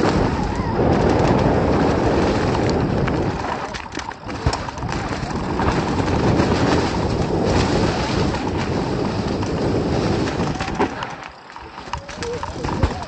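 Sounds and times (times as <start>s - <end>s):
bike tyres rolling over dead leaves: 0.0s - 13.0s.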